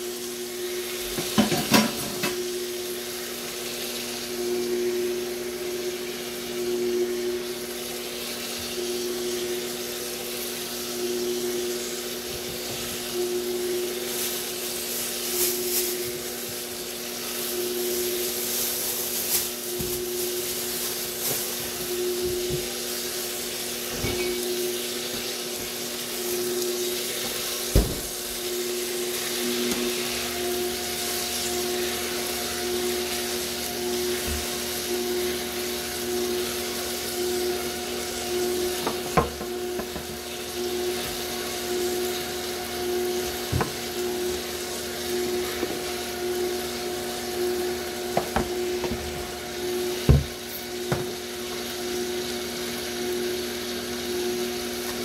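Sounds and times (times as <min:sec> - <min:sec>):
cooker motor humming: 0:00.0 - 0:55.0
food sizzling in oil: 0:00.0 - 0:55.0.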